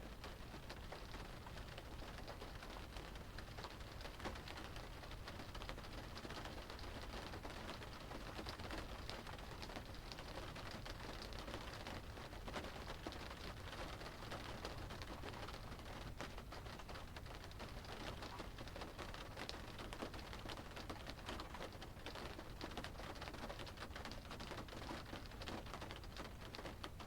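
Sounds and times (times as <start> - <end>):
rain drumming on car roof: 0.1 - 27.0.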